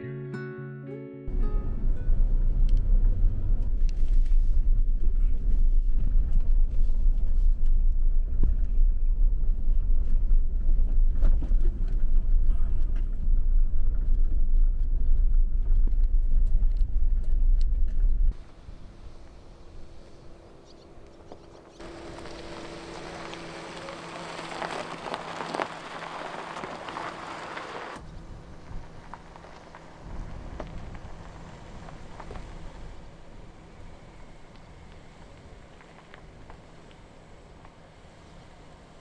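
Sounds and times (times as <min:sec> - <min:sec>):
vehicle rumble on rough track: 0:01.3 - 0:39.0.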